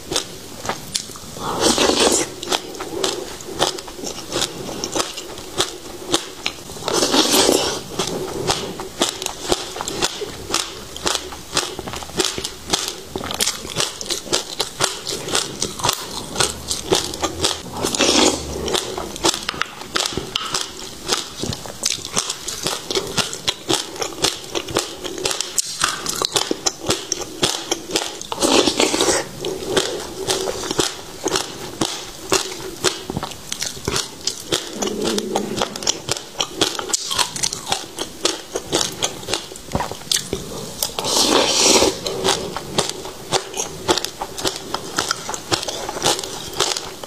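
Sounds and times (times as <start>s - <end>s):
chewing and crunching seeds: 0.0s - 47.0s.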